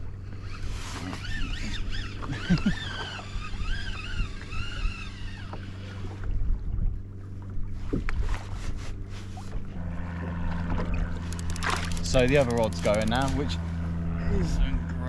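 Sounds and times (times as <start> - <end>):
fishing reel drag whining: 0.1 - 6.3, 9.1 - 15.0.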